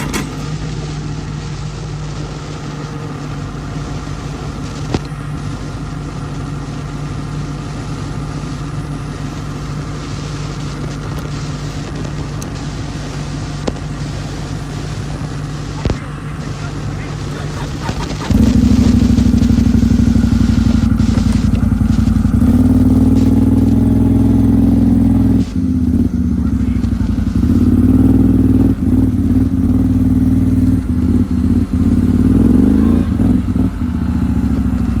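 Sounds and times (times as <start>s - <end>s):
excavator diesel engine under load: 0.0s - 35.0s.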